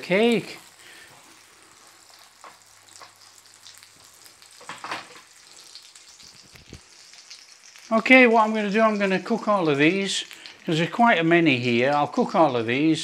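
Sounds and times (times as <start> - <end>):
bread sizzling in butter: 0.0 - 13.0.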